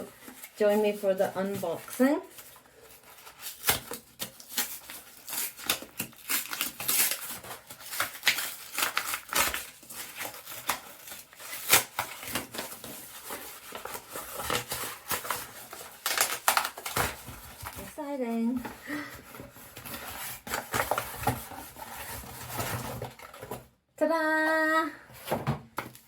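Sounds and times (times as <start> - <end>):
cardboard parcel being opened: 0.0 - 23.7.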